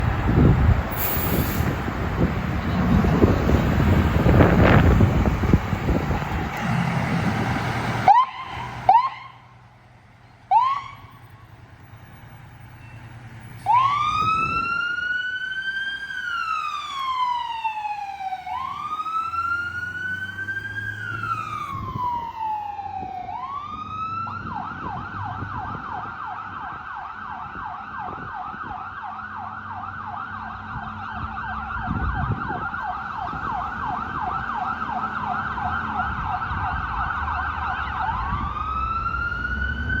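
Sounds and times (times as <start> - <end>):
fire engine siren: 0.0 - 40.0.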